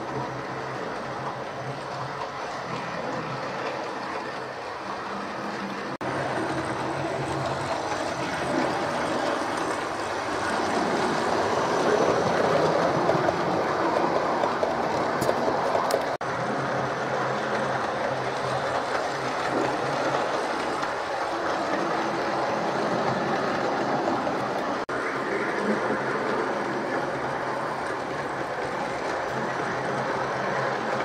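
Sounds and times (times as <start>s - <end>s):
model train whirring and rattling: 0.0s - 31.0s.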